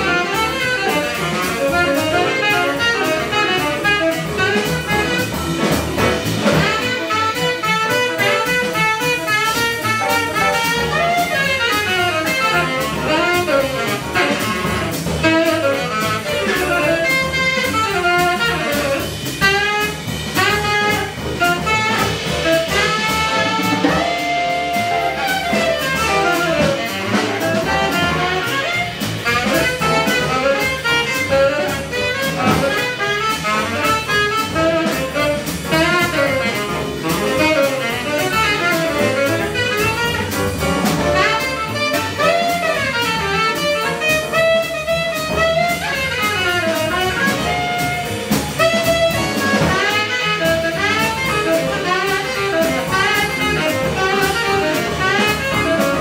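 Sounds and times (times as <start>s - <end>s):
jazz quintet playing: 0.0s - 56.0s.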